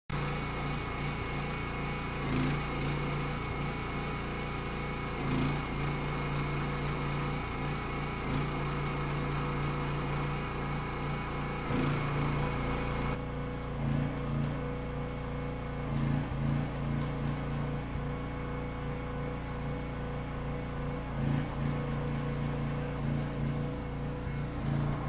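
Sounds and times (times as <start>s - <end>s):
small gas engine running: 0.1s - 25.0s.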